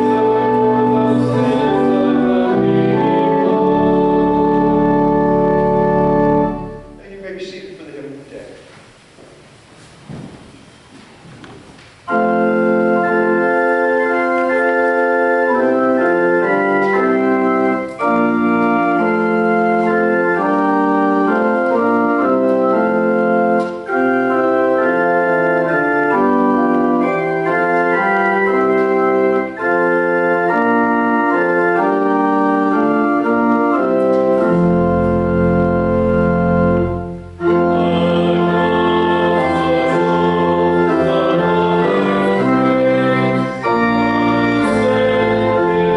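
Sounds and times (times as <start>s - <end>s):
church organ playing chords: 0.0s - 7.8s, 12.0s - 45.9s
deep organ pedal bass notes: 0.0s - 7.8s, 12.1s - 45.9s.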